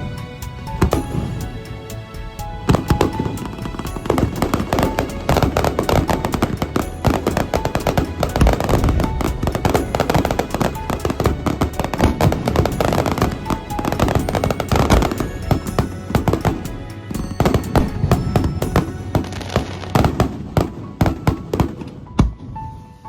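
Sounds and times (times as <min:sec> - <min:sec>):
fireworks bursting and crackling: 0:00.0 - 0:01.8, 0:02.6 - 0:22.1.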